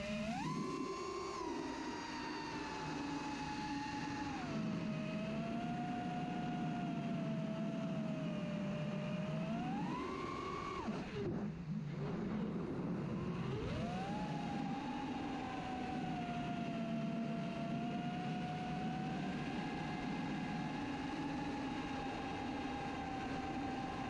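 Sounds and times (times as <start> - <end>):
drone motors and propellers whining: 0.0 - 24.0.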